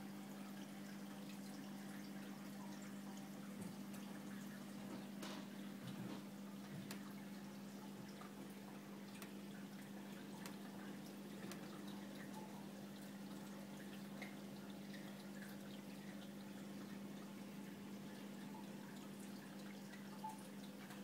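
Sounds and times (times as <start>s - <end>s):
water trickling in aquarium: 0.0s - 21.0s
water drips: 0.1s - 21.0s.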